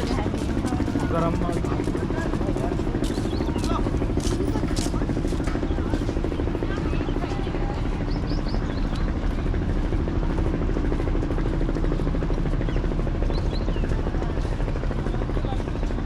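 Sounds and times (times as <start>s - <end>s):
low fluttering drone: 0.0s - 16.0s.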